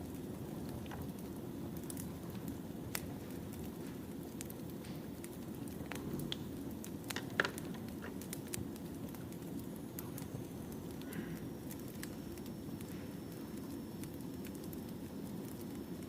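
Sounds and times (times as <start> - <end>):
fire crackling and popping: 0.0 - 16.0
firewood burning: 0.0 - 16.0.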